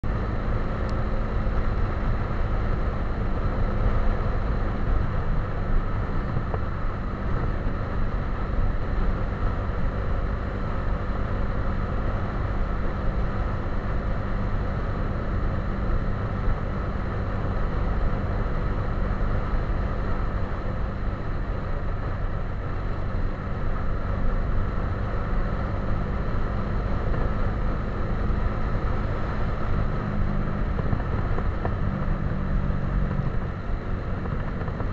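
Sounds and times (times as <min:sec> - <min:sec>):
motorcycle engine cruising: 0:00.0 - 0:34.9
road and wind noise: 0:00.0 - 0:34.9.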